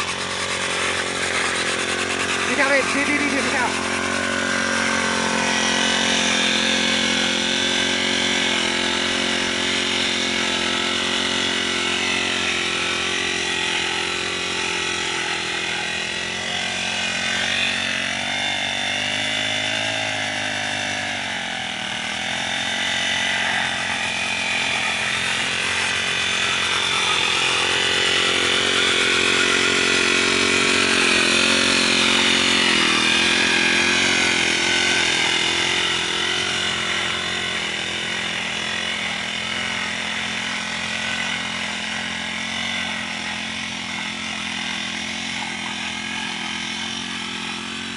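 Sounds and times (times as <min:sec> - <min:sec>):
blade cutting grass: 0:00.0 - 0:47.9
brush cutter engine: 0:00.0 - 0:47.9.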